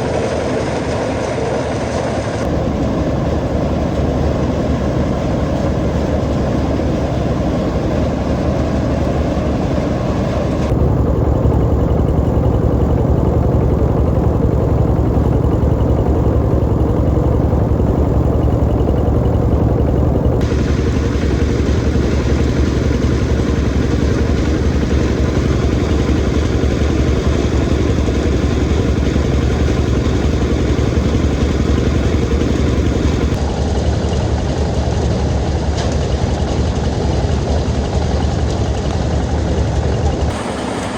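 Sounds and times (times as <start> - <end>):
engine running under load: 0.0 - 40.9.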